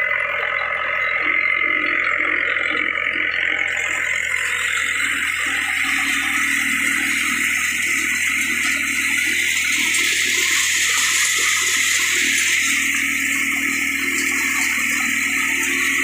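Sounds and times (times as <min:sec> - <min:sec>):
threshing machine running: 0:00.0 - 0:16.0.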